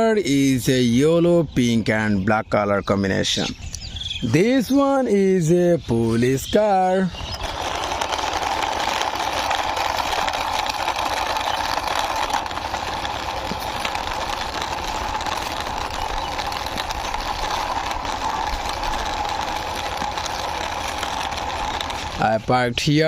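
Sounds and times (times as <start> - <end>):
small engine idling: 4.3 - 23.0.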